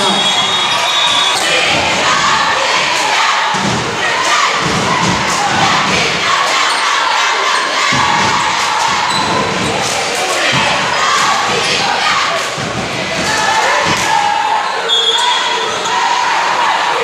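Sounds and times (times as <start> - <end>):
crowd talking and shouting: 0.0 - 17.0.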